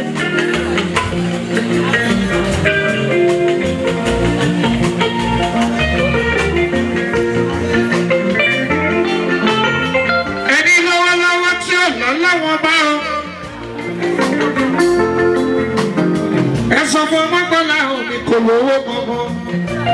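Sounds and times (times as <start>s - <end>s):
drums with steady beat: 0.0s - 18.2s, 18.8s - 19.9s
melodic guitar lines: 0.0s - 19.9s.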